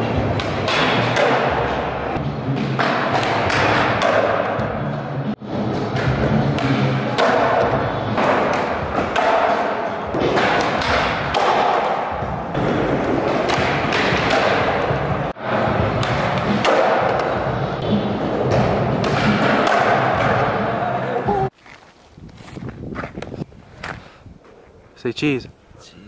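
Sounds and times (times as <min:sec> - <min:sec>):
skateboard wheels rolling on concrete: 0:00.0 - 0:25.0.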